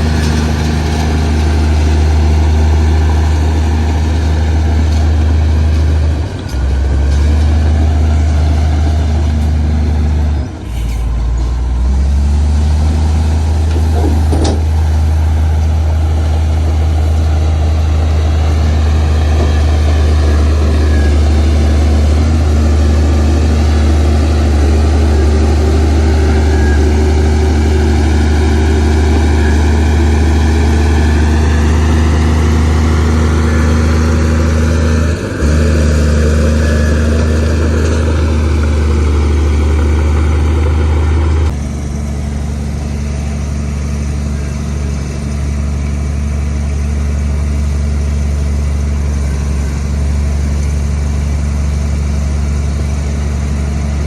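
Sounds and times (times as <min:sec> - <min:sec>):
diesel earthmoving machinery: 0:00.0 - 0:54.0.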